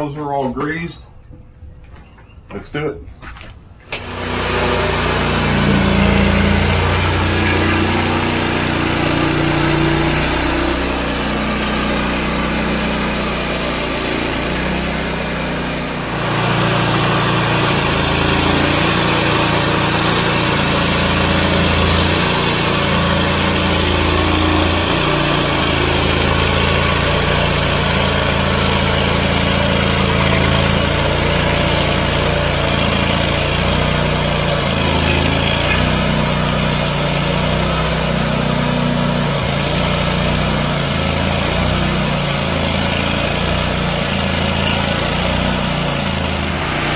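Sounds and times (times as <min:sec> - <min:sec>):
saw blade cutting log: 0:03.9 - 0:46.9
sawmill engine running: 0:03.9 - 0:46.9.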